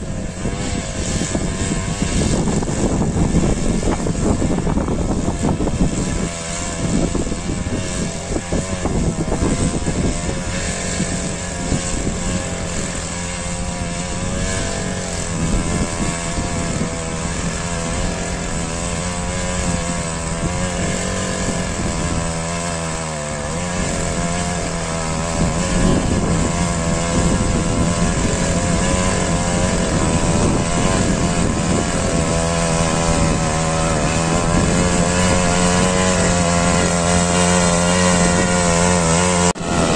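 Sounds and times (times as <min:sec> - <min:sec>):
power weeder engine running: 0:00.0 - 0:39.9.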